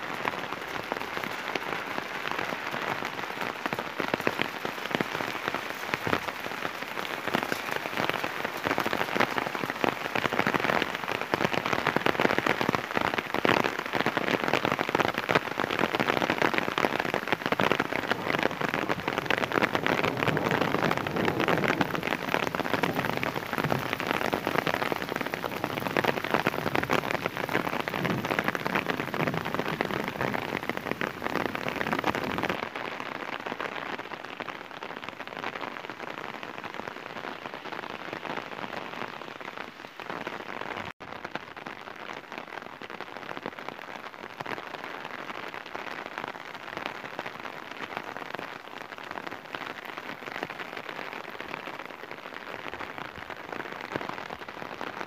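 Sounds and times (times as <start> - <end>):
heavy rain on pavement: 0.0 - 55.0.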